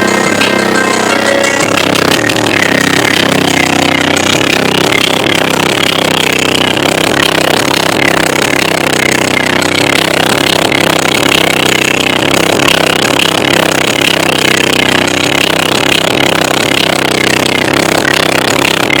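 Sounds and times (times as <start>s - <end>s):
subwoofers playing bass-heavy music: 0.0s - 19.0s.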